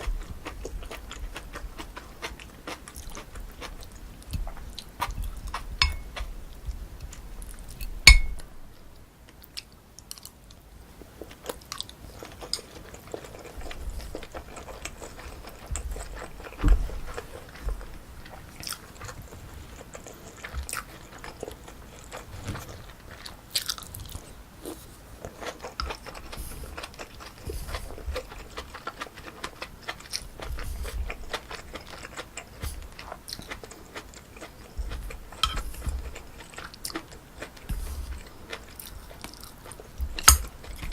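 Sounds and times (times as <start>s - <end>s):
chewing and biting food: 0.0s - 8.5s, 11.2s - 40.9s.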